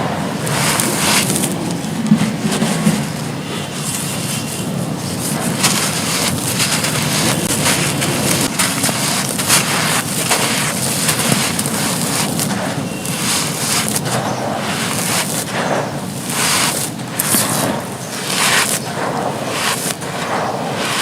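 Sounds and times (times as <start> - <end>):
dry crumbly material crunching: 0.0 - 21.0.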